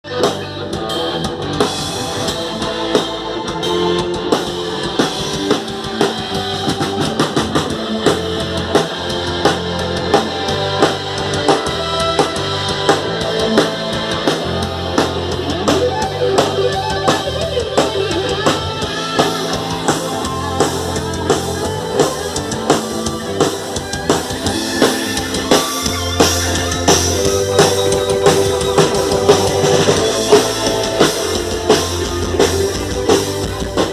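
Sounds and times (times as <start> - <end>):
band music: 0.0 - 33.9
drum kit steady beat: 0.0 - 33.9.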